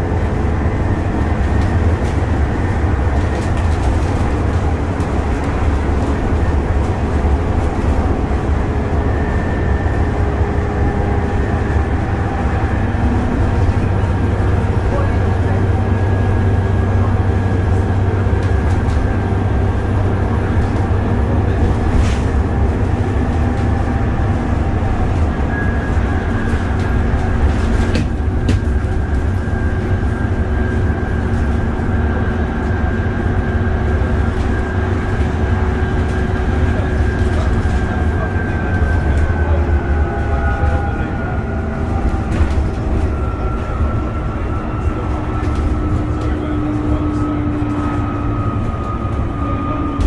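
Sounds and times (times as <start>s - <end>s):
bus engine drone: 0.0s - 50.0s
high axle whine: 0.0s - 50.0s.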